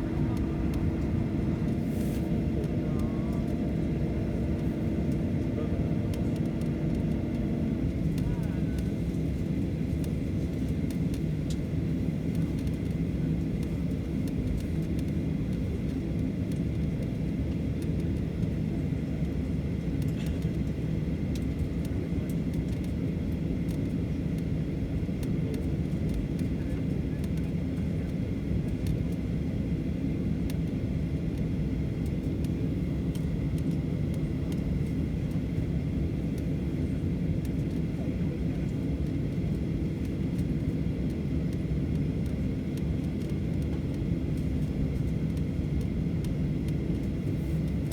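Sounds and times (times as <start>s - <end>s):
engine and airflow rumble: 0.0s - 47.9s.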